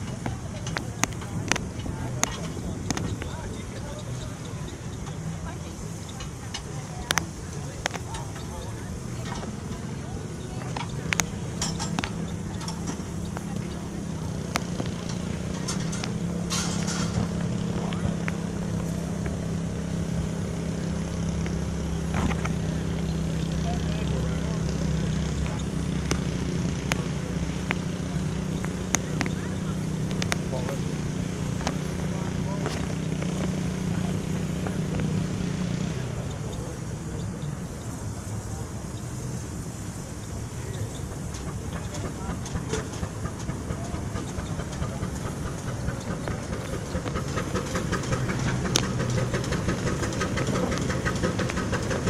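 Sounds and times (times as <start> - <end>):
steam engine droning: 0.0 - 52.0.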